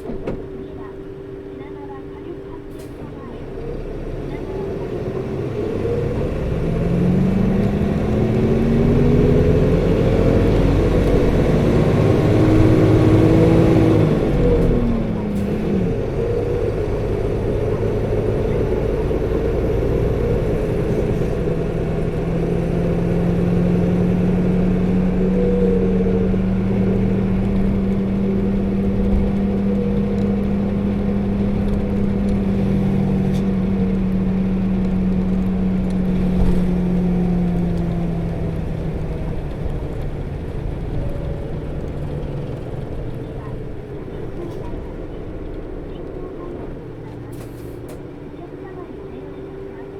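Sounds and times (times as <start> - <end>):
bus engine drone: 0.0 - 49.9.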